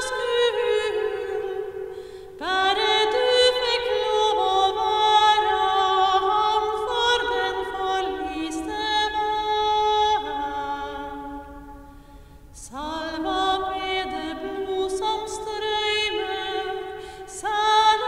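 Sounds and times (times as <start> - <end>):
woman singing a hymn: 0.0 - 18.0.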